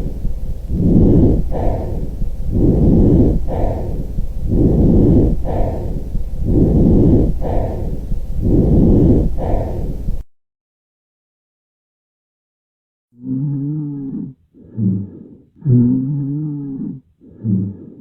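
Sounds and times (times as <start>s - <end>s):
lung breath sounds: 0.0s - 10.3s, 13.2s - 18.0s.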